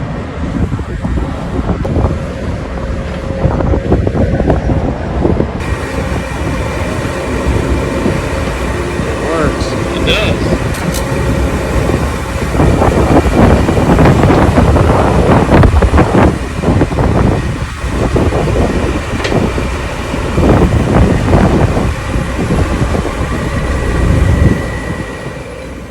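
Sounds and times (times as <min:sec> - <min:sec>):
excavator running: 0:00.0 - 0:25.9.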